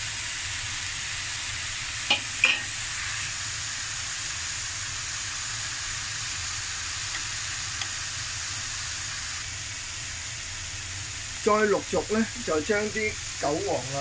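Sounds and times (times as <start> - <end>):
noodles sizzling in a frying pan: 0.0 - 14.0.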